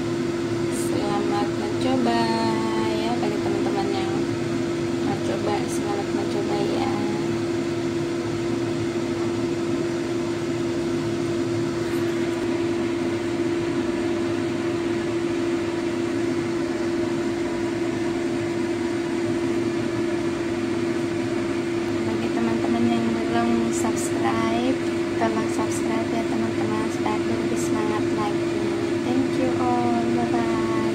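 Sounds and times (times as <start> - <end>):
fan motor hum: 0.0 - 30.9.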